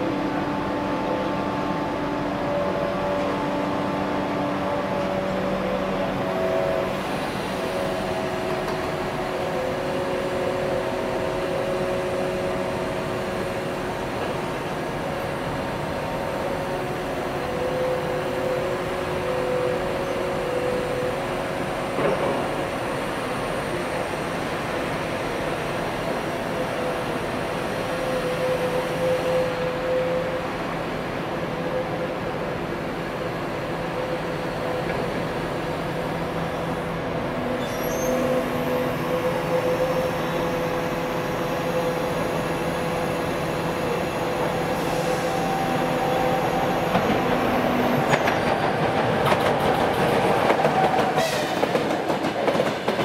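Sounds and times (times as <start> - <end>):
electric locomotive running: 1.8 - 53.0.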